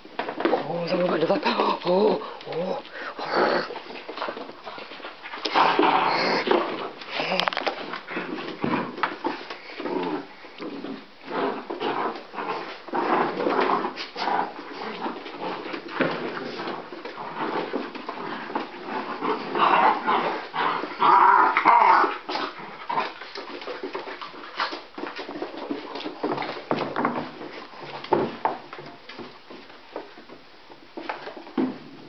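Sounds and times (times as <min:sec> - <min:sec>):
puppies making vocal noises: 0:00.5 - 0:28.2.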